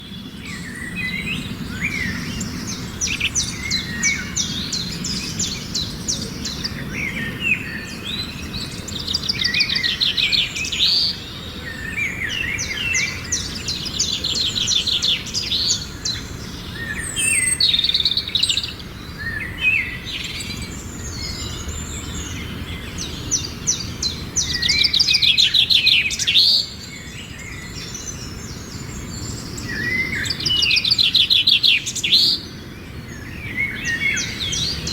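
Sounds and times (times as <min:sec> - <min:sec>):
birds chirping and singing: 0:00.0 - 0:34.9.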